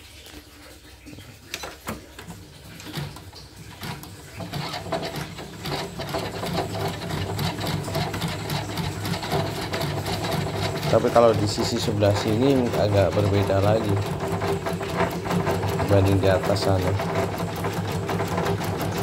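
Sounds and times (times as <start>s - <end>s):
motor hum: 0.2s - 19.0s
machine clicks: 1.5s - 19.0s
embroidery machine stitching: 2.6s - 19.0s.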